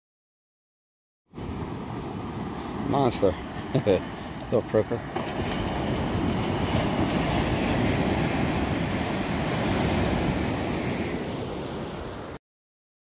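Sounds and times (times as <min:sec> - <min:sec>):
ocean surf: 0:01.3 - 0:12.4
wind buffeting microphone: 0:01.4 - 0:12.1.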